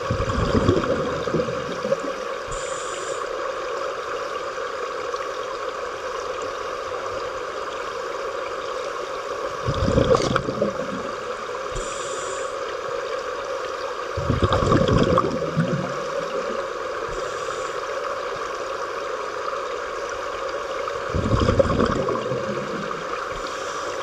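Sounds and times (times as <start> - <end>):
regulator bubbles rumbling underwater: 0.0 - 24.0
steady underwater hum: 0.0 - 24.0.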